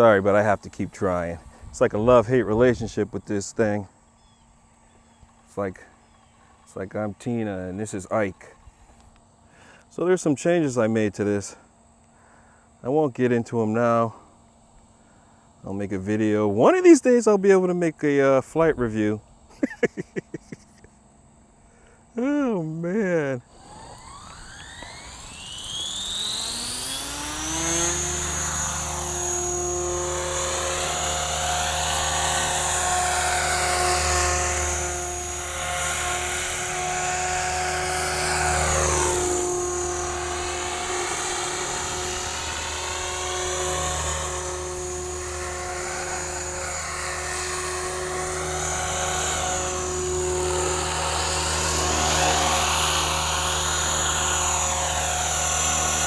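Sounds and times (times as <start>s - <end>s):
rc helicopter whine: 0.0s - 56.0s.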